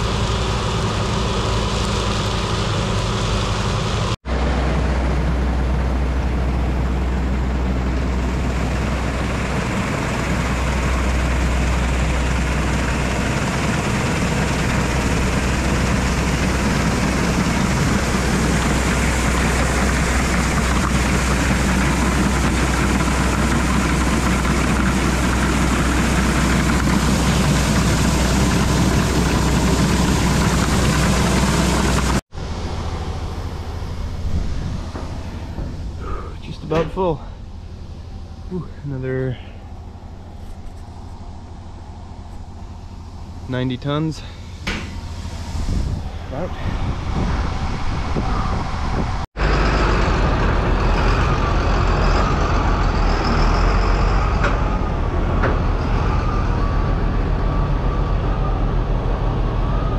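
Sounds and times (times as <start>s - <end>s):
diesel machinery droning: 0.0s - 59.9s.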